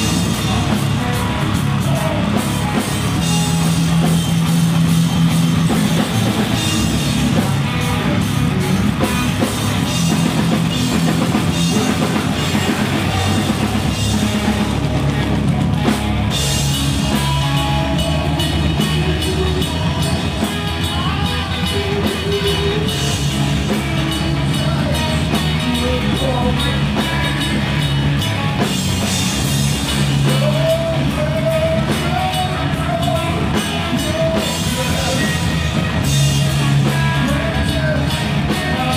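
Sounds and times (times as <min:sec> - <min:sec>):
heavy electric guitars: 0:00.0 - 0:38.9
pounding drum kit: 0:00.0 - 0:38.9.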